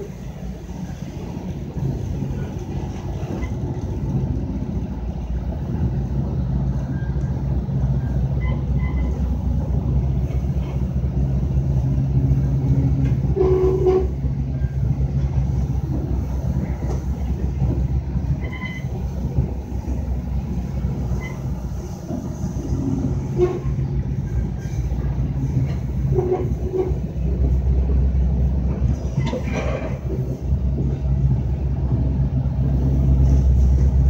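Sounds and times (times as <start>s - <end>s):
train rumble and drone: 0.0s - 34.0s.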